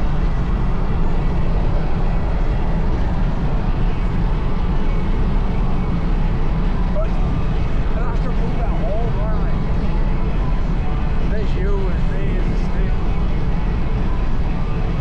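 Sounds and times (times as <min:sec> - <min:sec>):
van driving rumble: 0:00.0 - 0:15.0.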